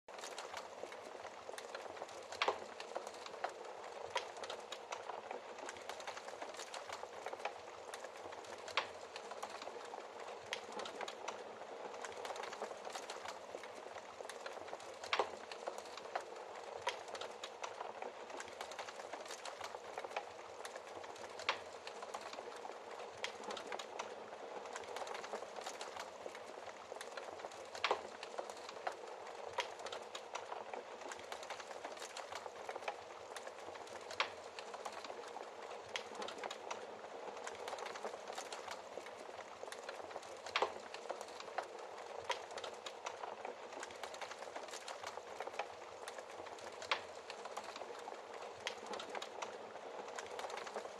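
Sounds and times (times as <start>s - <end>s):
wood fire crackling: 0.1s - 50.9s.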